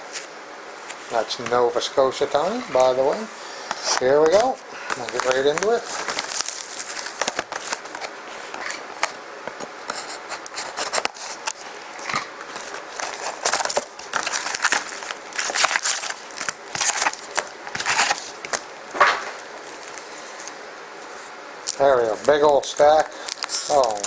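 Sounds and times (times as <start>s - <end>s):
wrapper crinkling and tearing: 1.1s - 9.0s, 10.4s - 24.0s.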